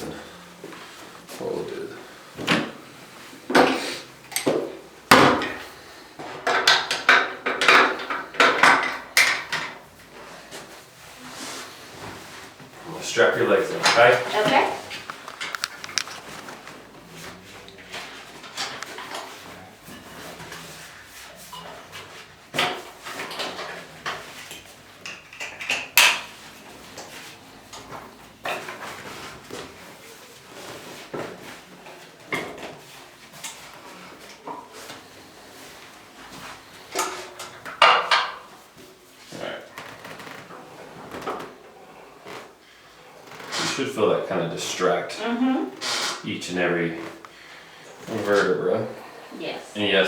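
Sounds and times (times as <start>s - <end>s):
straps rustling and clattering: 0.4s - 49.2s.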